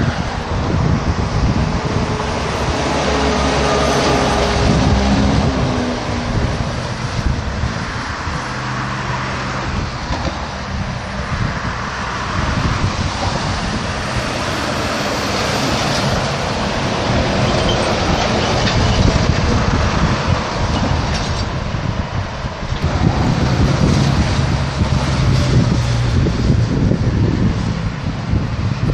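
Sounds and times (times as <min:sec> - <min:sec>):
vehicle engine and road noise: 0:00.0 - 0:28.9.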